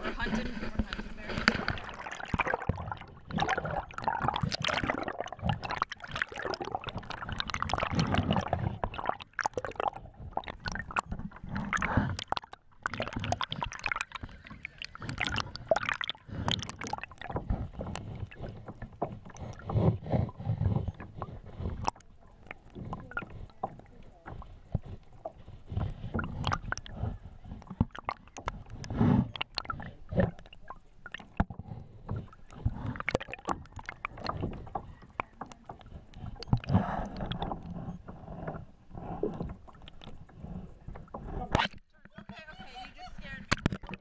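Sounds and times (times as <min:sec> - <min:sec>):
water sloshing and gurgling: 0:00.0 - 0:44.0.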